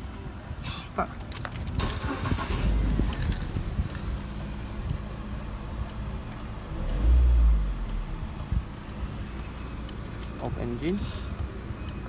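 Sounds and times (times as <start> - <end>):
car engine idling: 1.9 - 12.0.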